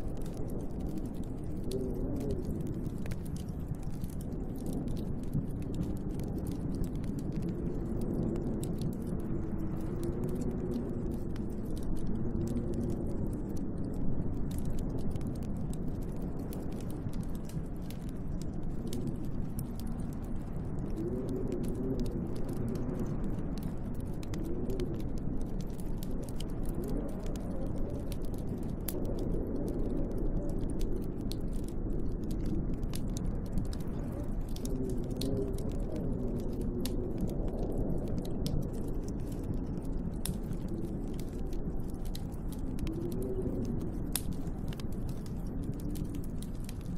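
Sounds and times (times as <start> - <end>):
howling wind: 0.0 - 46.9
wood fire crackling and popping: 0.0 - 46.9.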